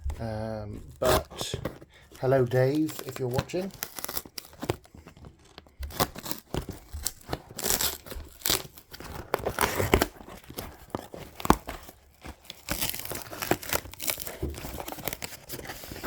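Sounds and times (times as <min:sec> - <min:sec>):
packaging tearing and crinkling: 0:00.0 - 0:16.0.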